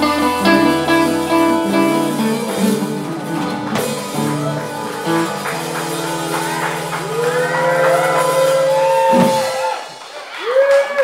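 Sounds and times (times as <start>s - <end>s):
live band playing: 0.0s - 10.8s.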